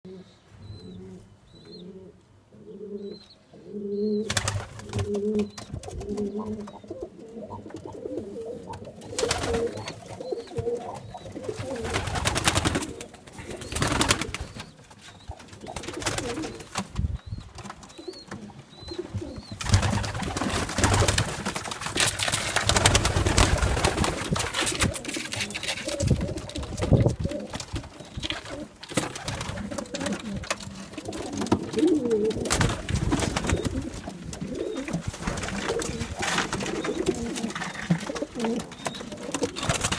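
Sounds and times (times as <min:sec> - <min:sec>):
pigeons cooing: 0:00.1 - 0:39.9
rustling and flapping: 0:04.2 - 0:06.9, 0:07.6 - 0:39.9.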